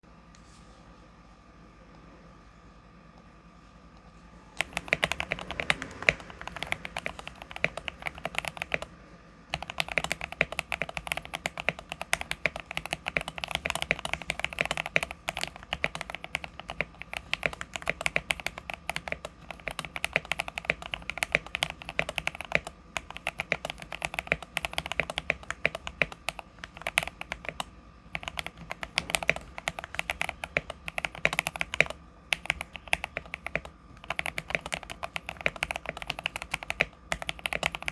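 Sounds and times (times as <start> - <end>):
fast mechanical keyboard typing: 4.6 - 8.9, 9.5 - 37.9.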